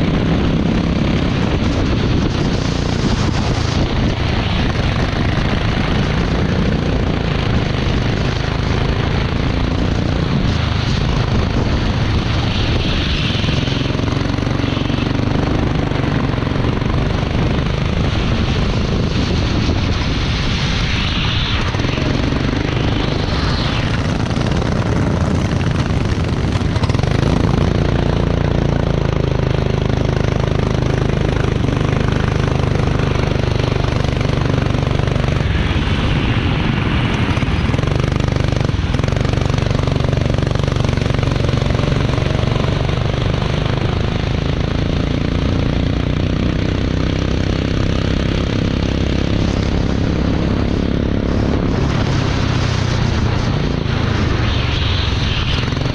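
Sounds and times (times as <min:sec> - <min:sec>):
racing vehicle engine running: 0:00.0 - 0:55.9.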